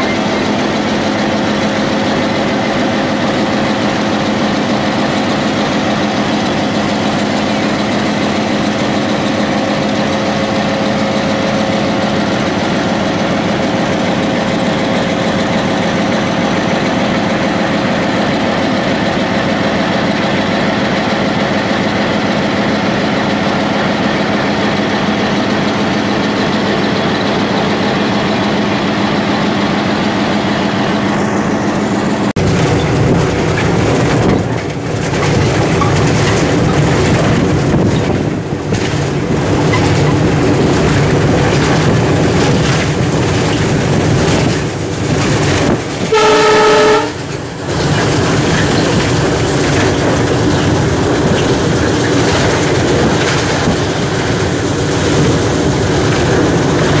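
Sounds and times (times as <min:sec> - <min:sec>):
locomotive engine idling: 0:00.0 - 0:57.0.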